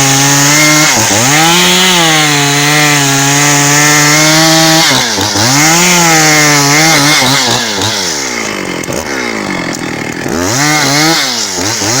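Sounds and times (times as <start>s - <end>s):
chainsaw ripping a log: 0.0s - 12.0s.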